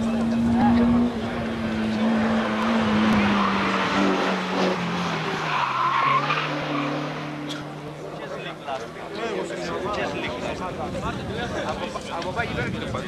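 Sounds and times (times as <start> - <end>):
rally car engine at high revs: 0.0 - 10.7.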